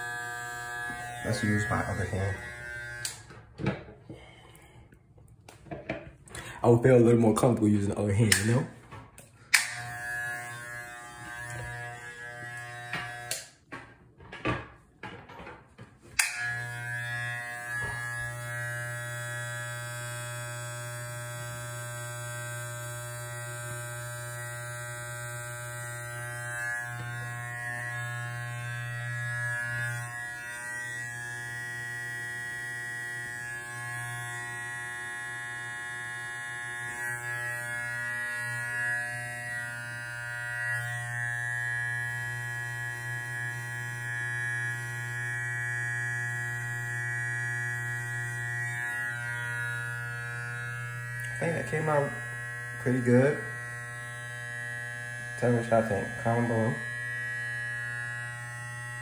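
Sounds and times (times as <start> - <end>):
hair trimmer buzzing: 0.0 - 3.4, 8.0 - 13.7, 16.1 - 59.0.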